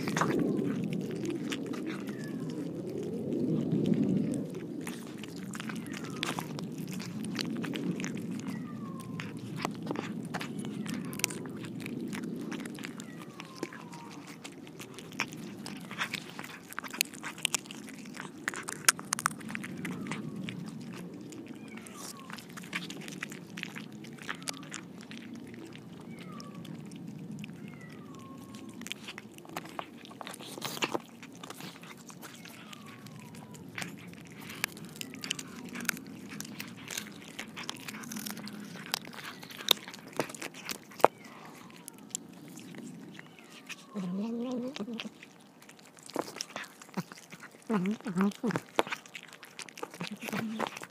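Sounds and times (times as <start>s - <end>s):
cat mewing: 0.0s - 3.3s, 4.0s - 50.9s
crunchy clicks: 0.0s - 44.0s, 44.7s - 50.9s
cats chewing wetly: 0.0s - 50.9s.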